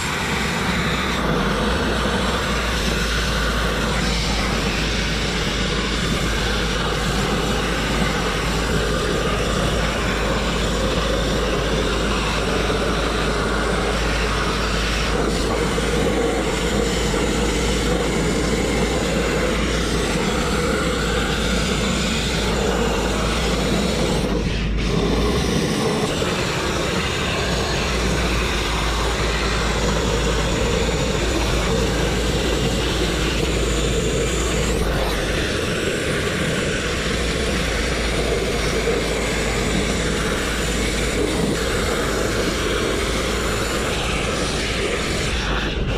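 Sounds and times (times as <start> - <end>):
grit blasting rushing hiss: 0.0 - 45.9.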